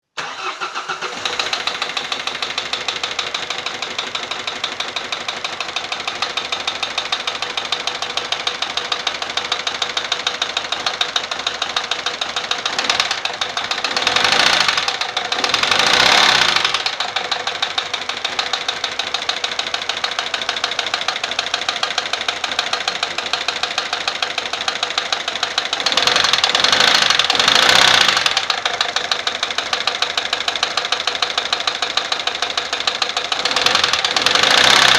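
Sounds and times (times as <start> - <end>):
diesel engine knocking: 1.2 - 34.9.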